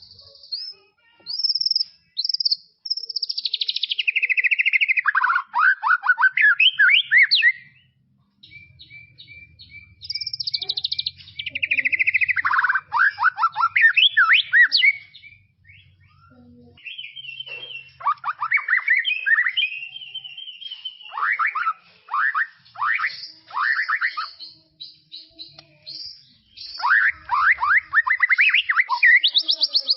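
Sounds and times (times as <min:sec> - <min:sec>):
bird singing whistled phrases: 0:00.0 - 0:07.8, 0:08.4 - 0:25.2, 0:25.9 - 0:29.9.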